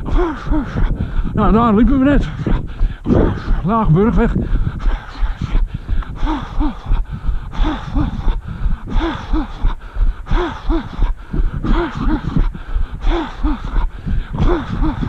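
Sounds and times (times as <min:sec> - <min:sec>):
runner panting: 0:00.0 - 0:15.0.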